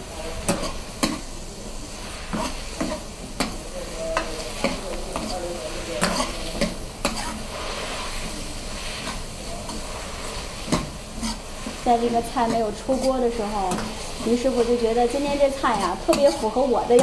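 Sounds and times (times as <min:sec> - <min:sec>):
stir-fry sizzling in a wok: 0:00.0 - 0:17.0
metal ladle scraping a wok: 0:02.0 - 0:03.6, 0:04.2 - 0:17.0.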